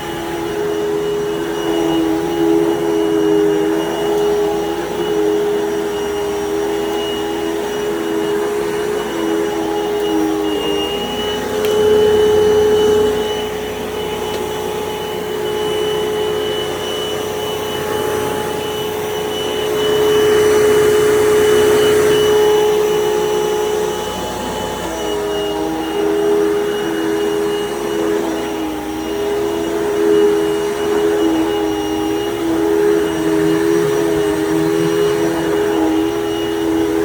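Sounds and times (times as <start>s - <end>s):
vacuum cleaner motor whine: 0.0s - 37.0s.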